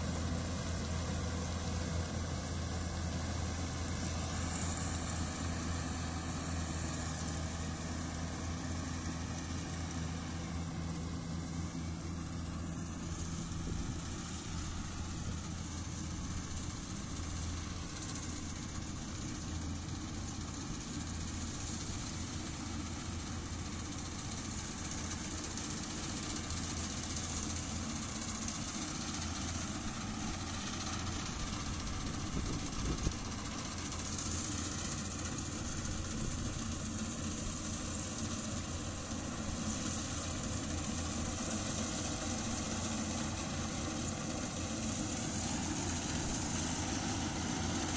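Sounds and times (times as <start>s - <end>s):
combine harvester diesel engine: 0.0s - 47.9s
continuous hiss: 0.0s - 47.9s.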